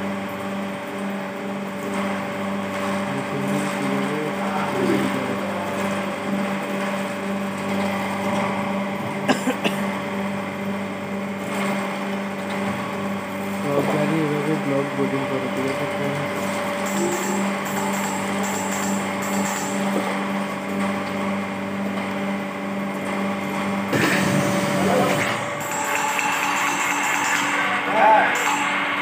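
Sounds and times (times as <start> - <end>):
boring machine motor humming: 0.0 - 29.0.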